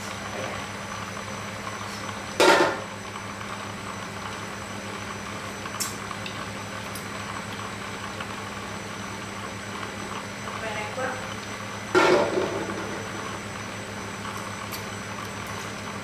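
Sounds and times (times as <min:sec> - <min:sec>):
gas burner: 0:00.0 - 0:16.0.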